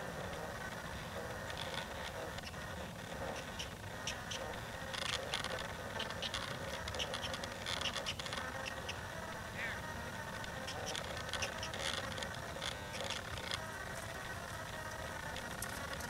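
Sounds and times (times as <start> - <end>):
microphone scratching and rubbing: 0.0 - 16.0
outdoor background noise: 0.0 - 16.0.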